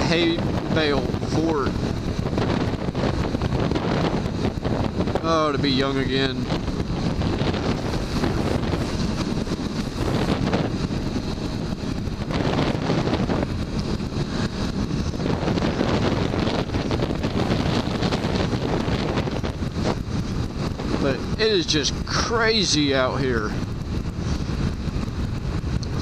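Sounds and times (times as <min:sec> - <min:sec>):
motorcycle engine: 0:00.0 - 0:26.0
road noise: 0:00.0 - 0:26.0
wind buffeting microphone: 0:00.0 - 0:26.0.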